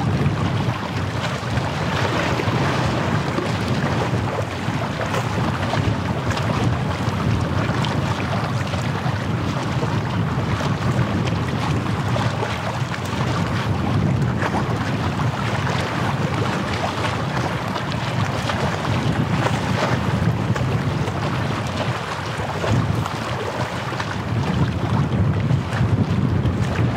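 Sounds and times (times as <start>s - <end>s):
small waves washing in: 0.0s - 26.9s
wind rumbling on microphone: 0.0s - 26.9s.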